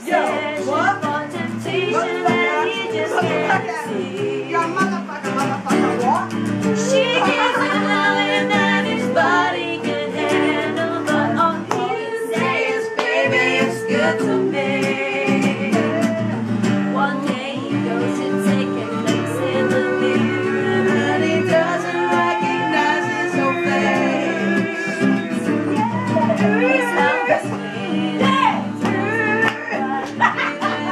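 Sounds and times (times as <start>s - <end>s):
woman singing: 0.0s - 4.8s, 6.6s - 30.9s
plucked string instrument strummed: 0.0s - 30.9s.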